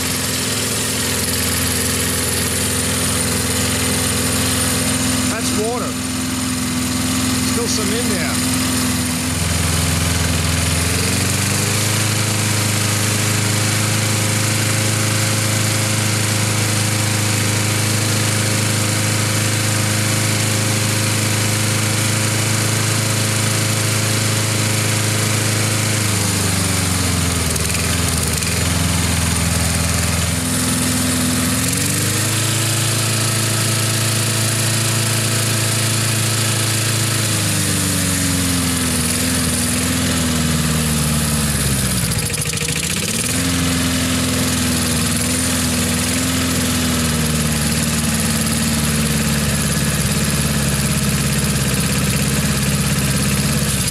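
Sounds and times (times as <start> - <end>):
lawn mower engine running: 0.0 - 53.9.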